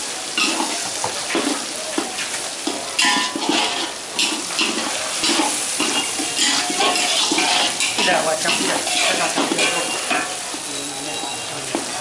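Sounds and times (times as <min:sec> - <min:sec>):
eggs sizzling in hot oil: 0:00.0 - 0:12.0
oil crackling: 0:00.0 - 0:12.0.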